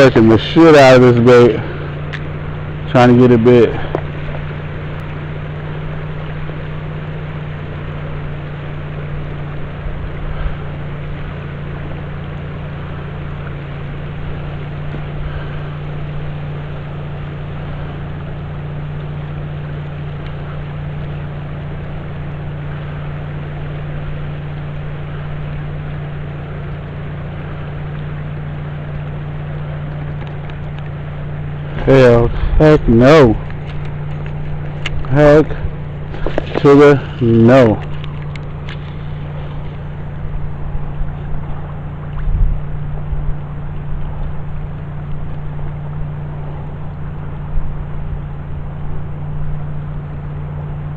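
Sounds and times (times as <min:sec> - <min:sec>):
motor humming: 0:00.0 - 0:50.9.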